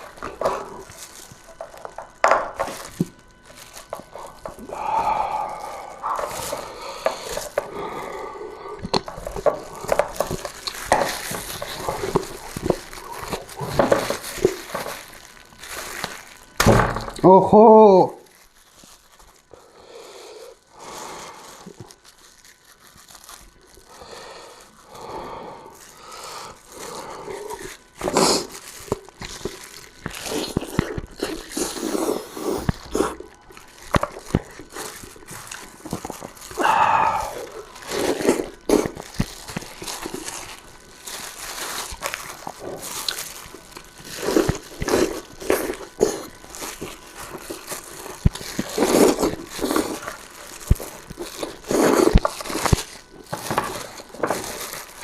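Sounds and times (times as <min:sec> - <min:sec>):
chewing and slurping food: 0:00.0 - 0:16.6, 0:19.4 - 0:55.0.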